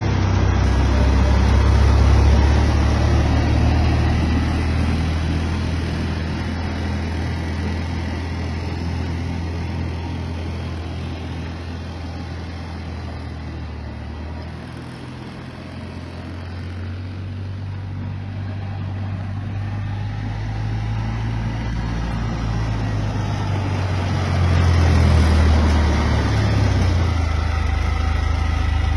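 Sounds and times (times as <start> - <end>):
utility vehicle engine running: 0.0 - 28.9.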